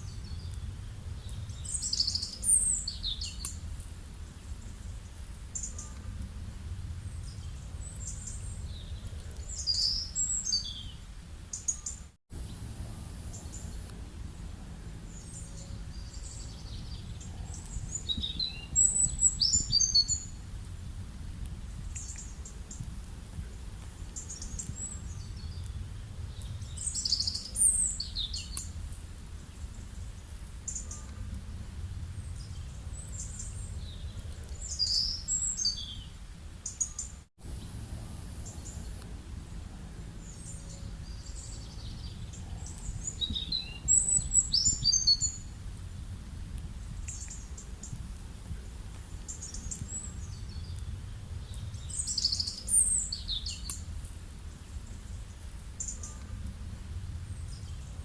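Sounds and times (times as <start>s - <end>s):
birds chirping: 0.0s - 3.7s, 4.3s - 6.2s, 7.0s - 20.5s, 21.8s - 28.8s, 29.4s - 45.6s, 49.2s - 53.9s
low rural background rumble: 0.0s - 58.0s.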